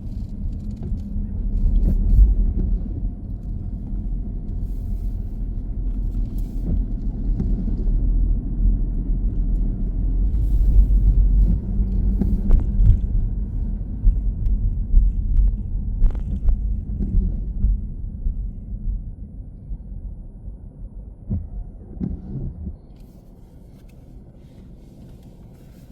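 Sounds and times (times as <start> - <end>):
car road and engine rumble: 0.0 - 25.9.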